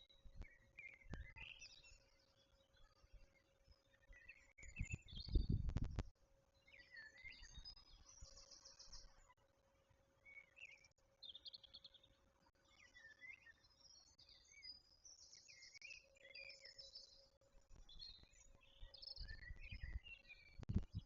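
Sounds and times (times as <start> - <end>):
birdsong trills and chirps: 0.0 - 9.4, 10.2 - 21.0.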